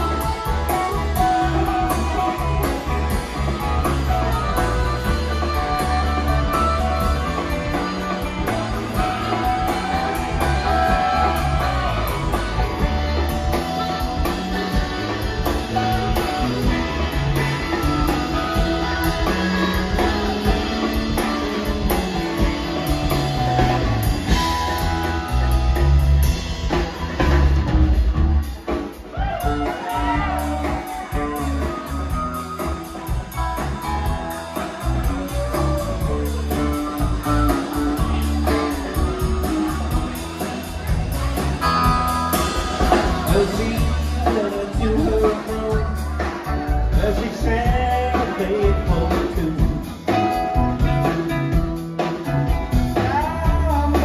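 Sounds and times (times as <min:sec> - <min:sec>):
bass guitar: 0:00.0 - 0:54.0
drums: 0:00.0 - 0:54.0
electric guitar: 0:00.0 - 0:54.0
keyboards: 0:00.0 - 0:54.0.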